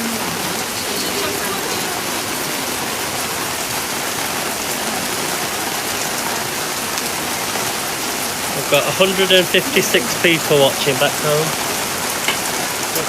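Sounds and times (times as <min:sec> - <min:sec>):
heavy rain hitting ground: 0:00.0 - 0:13.0.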